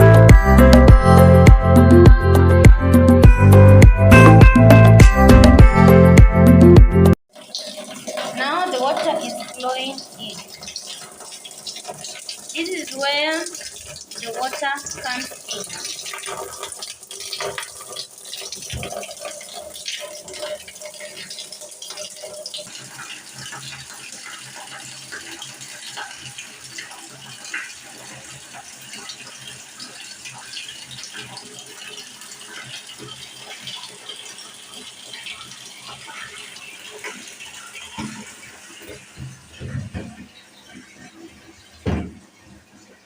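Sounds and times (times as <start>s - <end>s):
running water splashing: 7.3s - 43.0s.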